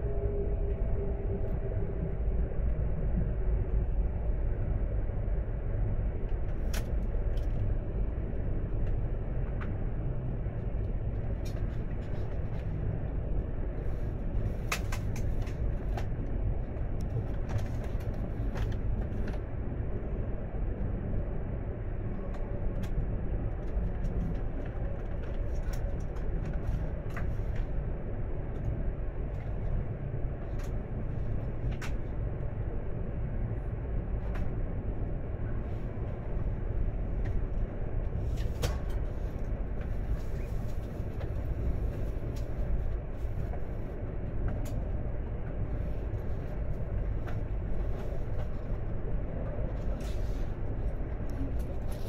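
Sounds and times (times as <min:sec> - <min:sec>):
train low rumble: 0:00.0 - 0:52.0.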